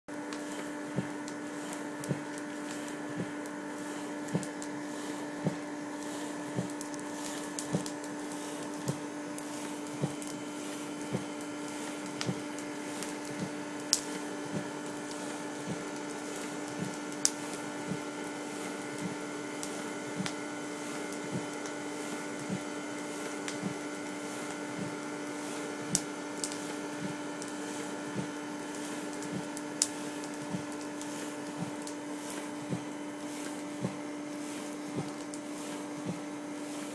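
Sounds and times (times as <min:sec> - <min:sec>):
machine hum: 0:00.1 - 0:36.9.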